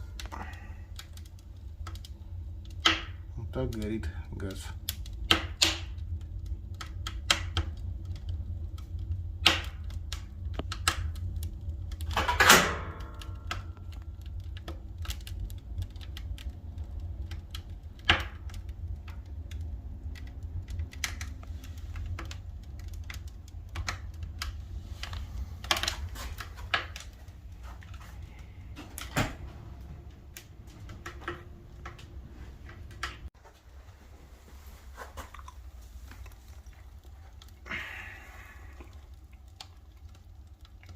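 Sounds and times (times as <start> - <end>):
fire low rumble: 0.0 - 40.9
wood fire crackling and popping: 0.0 - 40.9.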